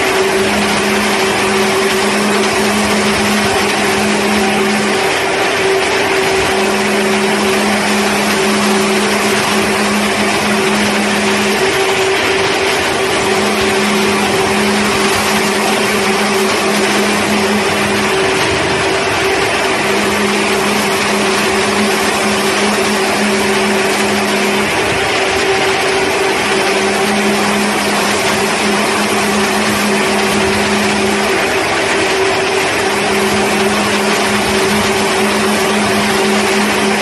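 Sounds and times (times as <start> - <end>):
constant hum: 0.0 - 37.0
lower intermittent hum: 0.0 - 37.0.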